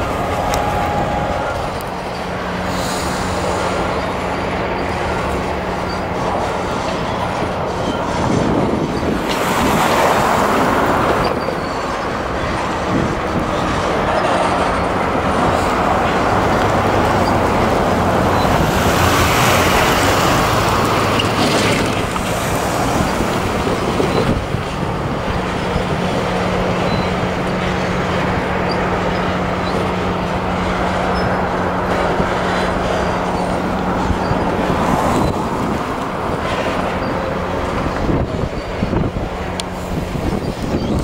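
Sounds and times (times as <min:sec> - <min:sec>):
freight cars rattling over rails: 0:00.0 - 0:41.0
locomotive diesel engine running: 0:00.0 - 0:41.0.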